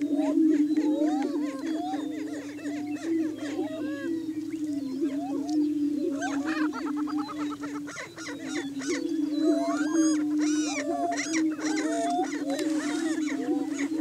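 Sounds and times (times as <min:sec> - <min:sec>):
cackling and whooping calls: 0:00.0 - 0:14.0
prairie chickens low booming: 0:00.0 - 0:14.0.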